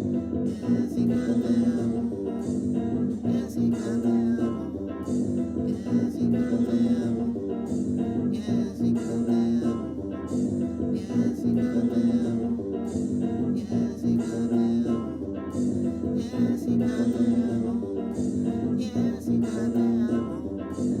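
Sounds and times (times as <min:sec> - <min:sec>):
guitar music with bass line: 0:00.0 - 0:21.0.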